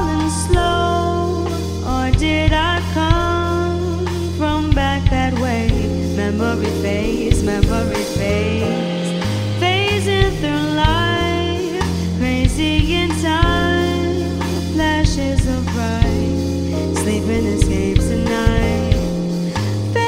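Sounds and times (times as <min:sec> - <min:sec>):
bass guitar: 0:00.0 - 0:20.0
drum kit: 0:00.0 - 0:20.0
keyboard: 0:00.0 - 0:20.0
woman singing: 0:00.0 - 0:20.0.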